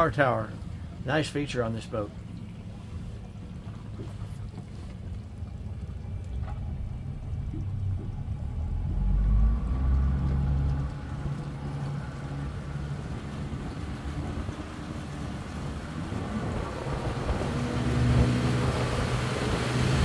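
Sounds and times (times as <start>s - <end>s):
outboard engine rumbling: 0.0s - 20.0s.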